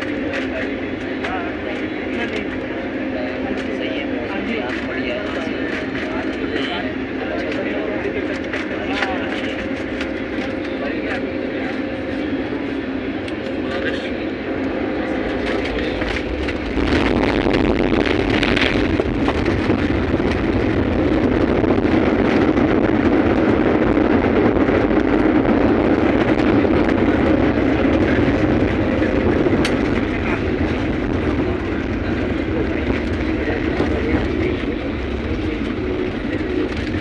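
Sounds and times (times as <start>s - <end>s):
jet airliner noise: 0.0s - 37.0s.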